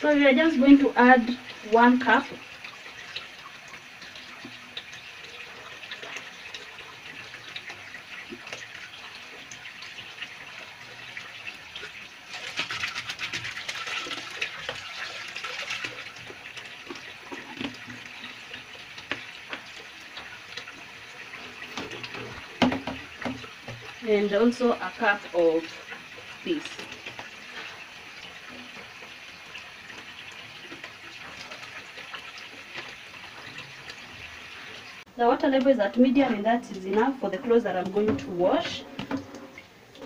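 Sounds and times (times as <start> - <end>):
water splashing into tub: 0.0 - 35.1.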